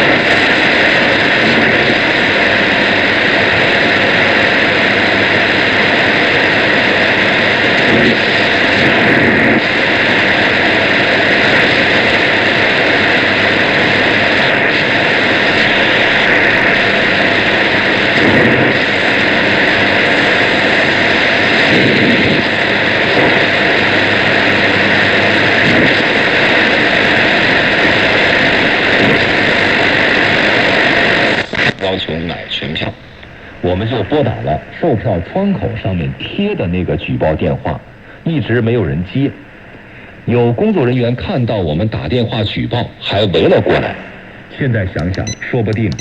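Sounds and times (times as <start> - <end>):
radio static hiss: 0.0 - 46.0.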